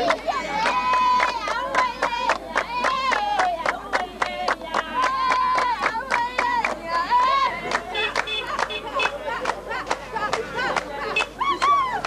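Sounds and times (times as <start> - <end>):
rhythmic hand clapping: 0.0 - 12.0
women singing: 0.0 - 12.0.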